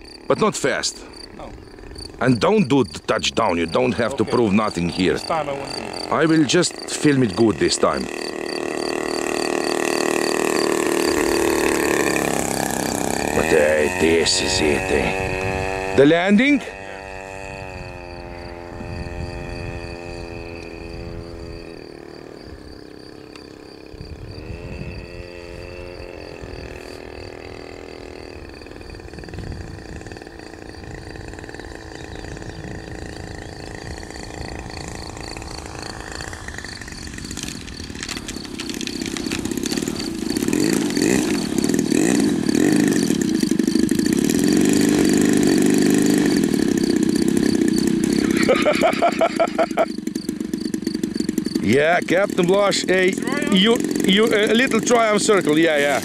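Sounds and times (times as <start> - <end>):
model plane engine running: 0.0 - 56.0.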